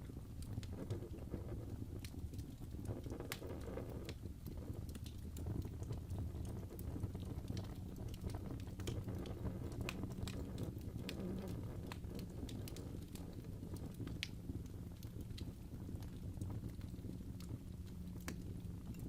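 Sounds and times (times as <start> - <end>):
burning wood crackling and popping: 0.0 - 19.0
fire flames rumbling: 0.0 - 19.0.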